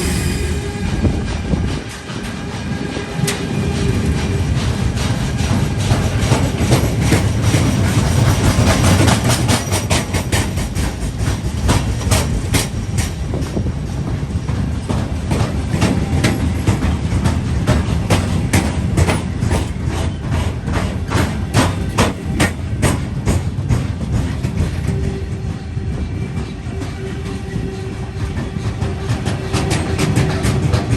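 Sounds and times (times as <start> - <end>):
train wheels on rails: 0.0 - 30.9
train wheels clacking over rail joints: 1.0 - 30.9.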